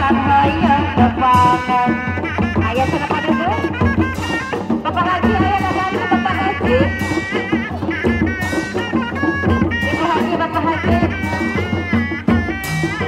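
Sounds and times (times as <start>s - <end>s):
hand drums in busy rhythm: 0.0s - 13.0s.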